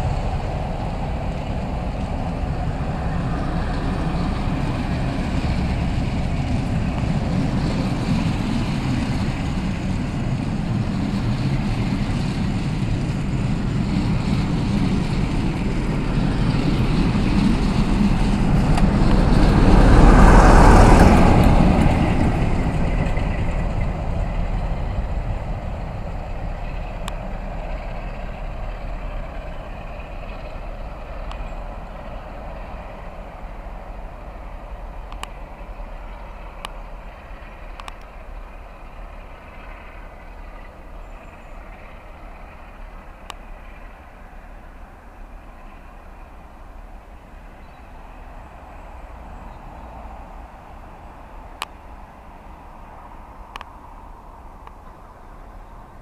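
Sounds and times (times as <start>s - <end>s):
diesel locomotive engine: 0.0s - 56.0s
train wheels rumbling on rail: 0.0s - 56.0s.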